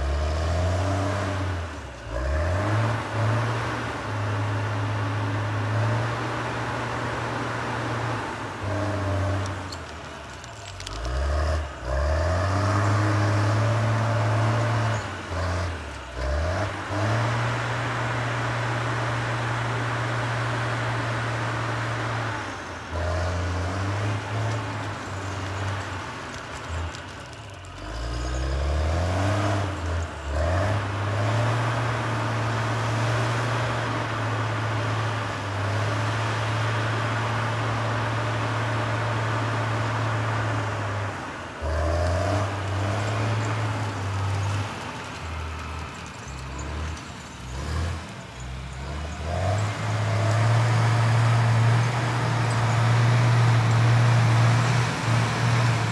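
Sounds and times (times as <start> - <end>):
diesel engine revving under load: 0.0 - 55.9.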